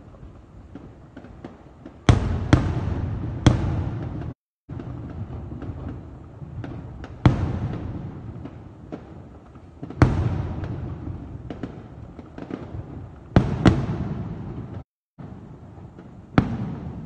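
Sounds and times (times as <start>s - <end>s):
firework pops and crackles: 0.0s - 17.0s.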